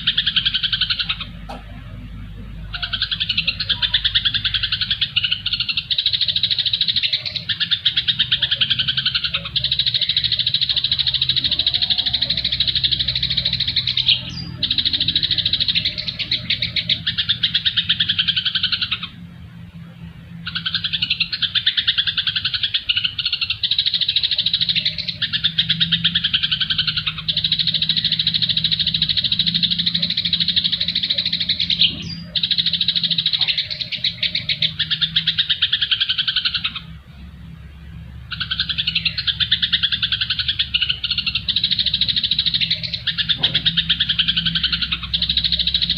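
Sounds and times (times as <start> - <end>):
songbird chattering: 0.0 - 45.9
steady low hum: 0.0 - 45.9.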